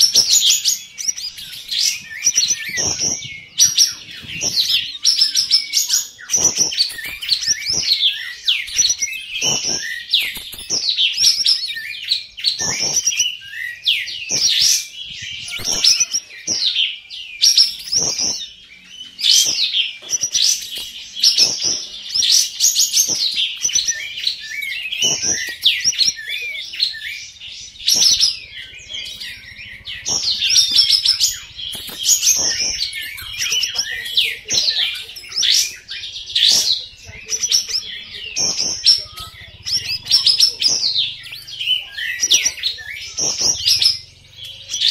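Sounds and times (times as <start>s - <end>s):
birds singing whistled notes: 0.0s - 44.9s.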